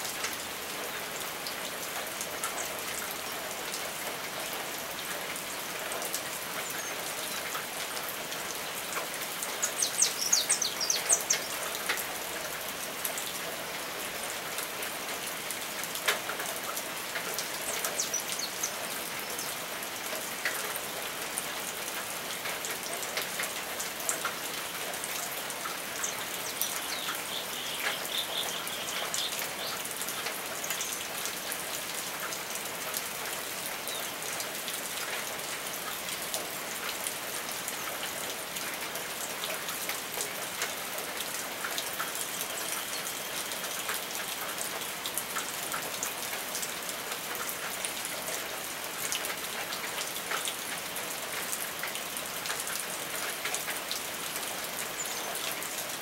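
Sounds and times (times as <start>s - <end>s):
raindrops ticking on surfaces: 0.0s - 56.0s
steady rain falling: 0.0s - 56.0s.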